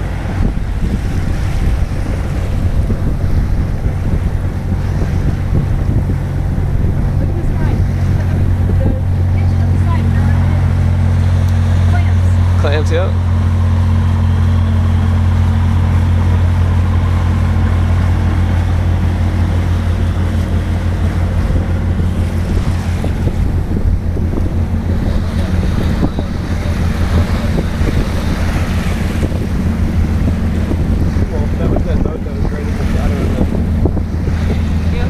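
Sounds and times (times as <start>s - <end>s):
boat engine droning: 0.0s - 35.0s
water rushing: 0.0s - 35.0s
wind buffeting microphone: 0.0s - 35.0s.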